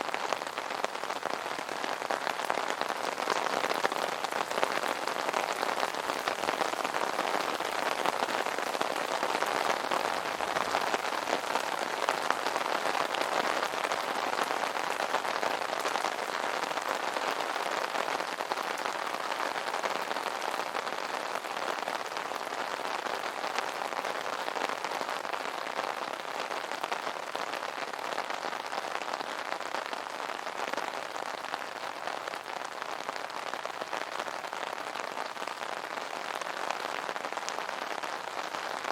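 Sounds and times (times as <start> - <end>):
rain pattering on an umbrella: 0.0 - 38.9.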